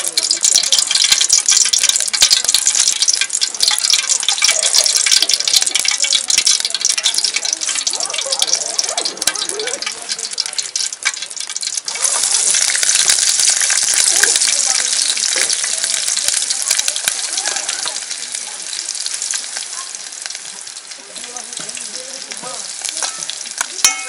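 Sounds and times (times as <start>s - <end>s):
garlic dropping into hot oil: 0.0s - 24.0s
oil crackling and sizzling: 0.0s - 24.0s.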